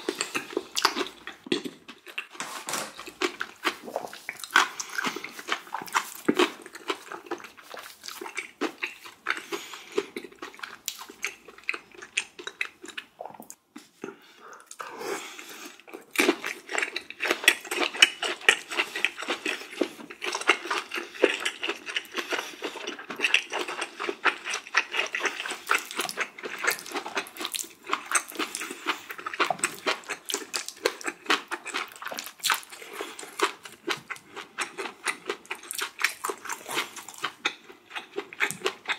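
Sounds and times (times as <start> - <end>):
person chewing with wet smacks: 0.0 - 2.4, 3.0 - 14.9, 15.6 - 38.9.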